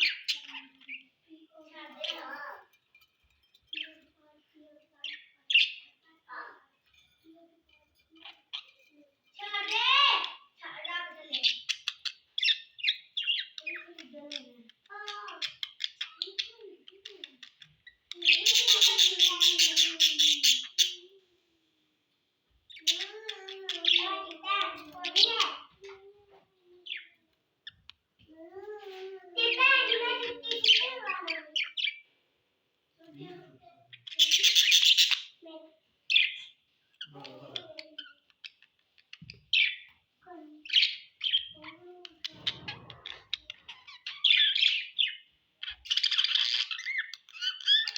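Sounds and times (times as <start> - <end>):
budgerigars chirping and chattering: 0.0 - 2.7, 3.5 - 21.2, 22.7 - 26.0, 28.9 - 32.1, 33.1 - 47.9.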